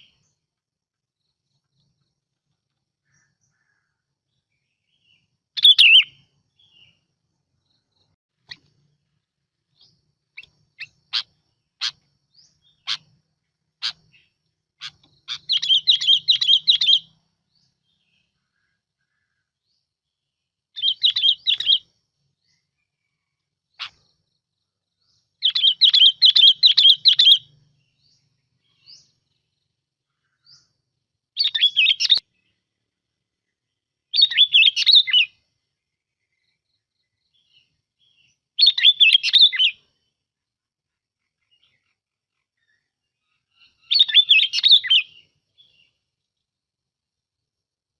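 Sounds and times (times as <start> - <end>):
bird warbling song: 0.0 - 0.6, 1.2 - 40.2, 41.1 - 46.6.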